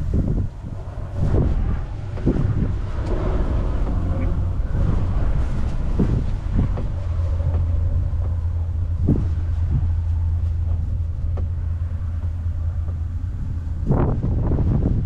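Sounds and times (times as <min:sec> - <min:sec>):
low vehicle rumble: 0:00.0 - 0:15.0
wind noise on microphone: 0:00.0 - 0:15.0.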